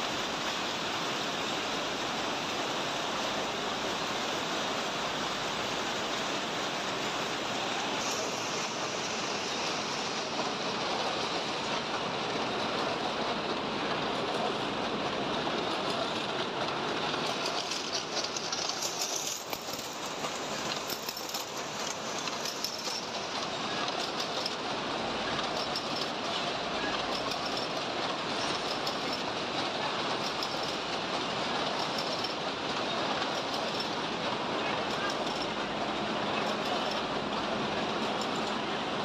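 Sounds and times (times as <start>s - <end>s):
machine clattering: 7.2s - 38.8s.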